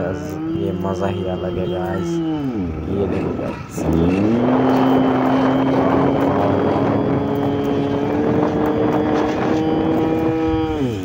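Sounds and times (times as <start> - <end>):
rushing ride noise: 0.0 - 11.0
scooter engine droning: 0.0 - 11.0.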